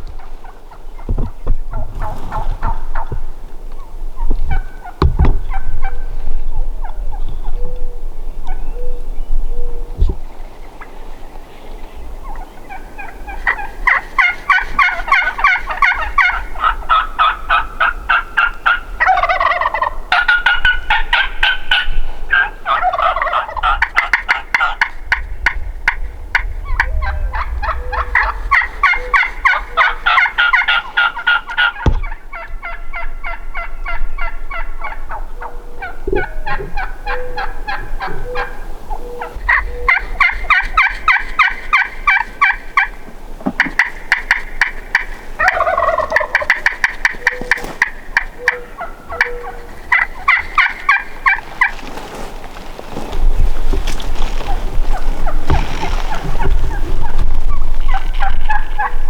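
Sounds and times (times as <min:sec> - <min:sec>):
wild turkeys gobbling: 0:00.0 - 0:59.0.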